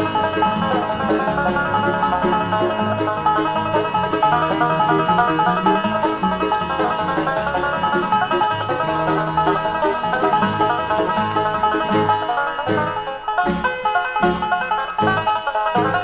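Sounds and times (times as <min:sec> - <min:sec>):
banjo playing fast lead: 0:00.0 - 0:16.0
guitar: 0:00.0 - 0:16.0
mandolin: 0:00.0 - 0:16.0
walking bass line: 0:00.0 - 0:16.0.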